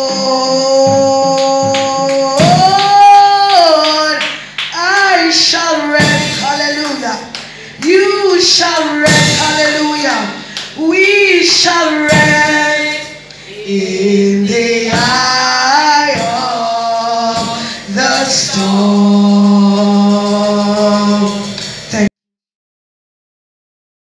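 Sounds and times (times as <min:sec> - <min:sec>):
woman singing into a microphone: 0:00.0 - 0:22.1.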